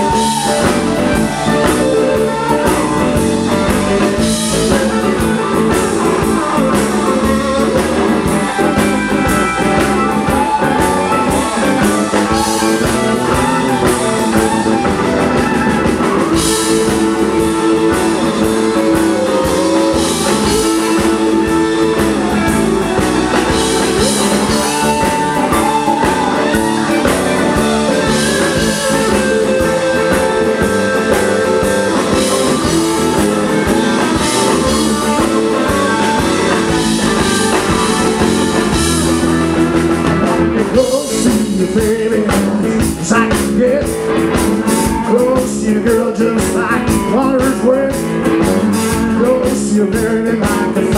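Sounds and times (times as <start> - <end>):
drum kit: 0.0 - 50.9
electric guitars: 0.0 - 50.9.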